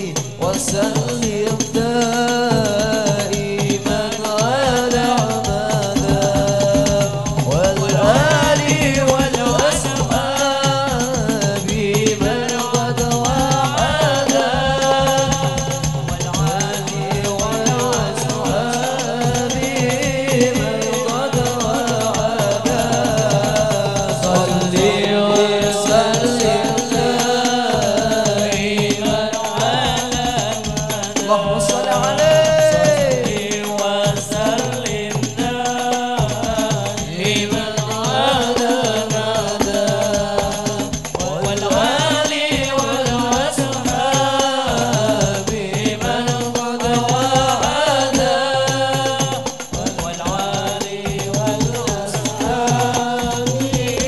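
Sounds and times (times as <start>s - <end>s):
frame drums beating: 0.0s - 54.0s
voices singing devotional chant: 0.0s - 54.0s.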